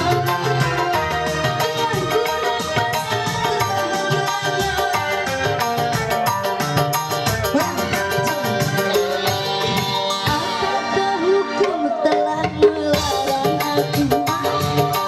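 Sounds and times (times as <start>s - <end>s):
hand drums beating quick rhythm: 0.0s - 10.9s, 11.6s - 15.0s
keyboard melody with sliding notes: 0.0s - 15.0s.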